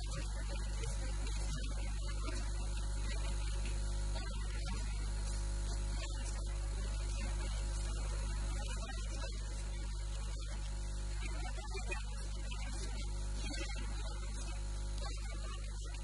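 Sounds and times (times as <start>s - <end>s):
electrical mains hum: 0.0s - 16.0s
faint static hiss: 0.0s - 16.0s.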